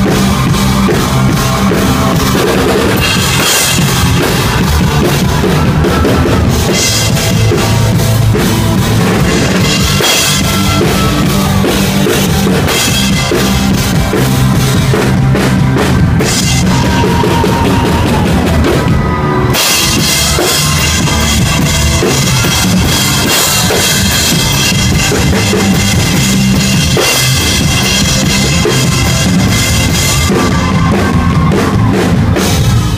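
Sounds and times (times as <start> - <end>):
drums: 0.0 - 32.9
live rock band playing: 0.0 - 32.9.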